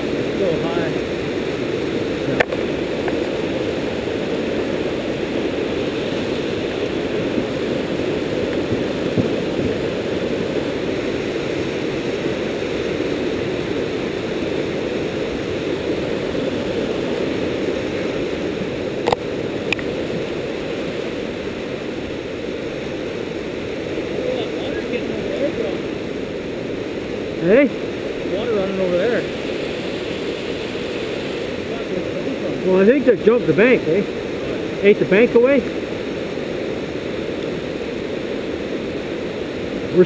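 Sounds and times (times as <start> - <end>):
water rushing over rocks: 0.0 - 40.0.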